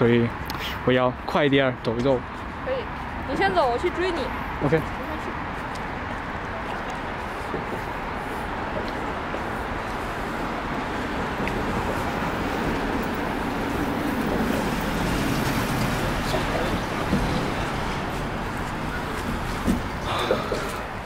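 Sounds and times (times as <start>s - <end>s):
passing road traffic: 0.0s - 21.0s.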